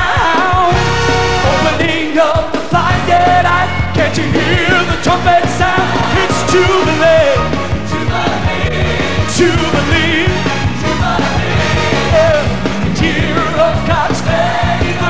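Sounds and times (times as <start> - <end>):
bass line: 0.0 - 15.0
choir singing with vibrato: 0.0 - 15.0
drums: 0.0 - 15.0.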